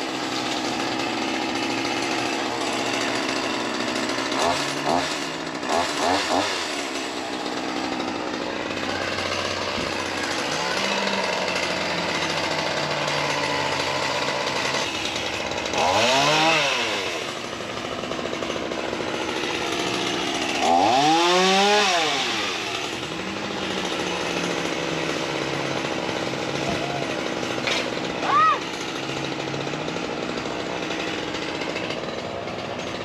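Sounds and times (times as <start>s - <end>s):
chainsaw idling and revving: 0.0s - 33.0s.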